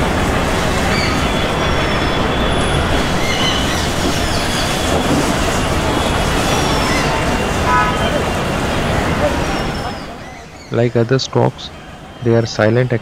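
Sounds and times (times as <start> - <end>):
passing vehicles rushing: 0.0 - 13.0.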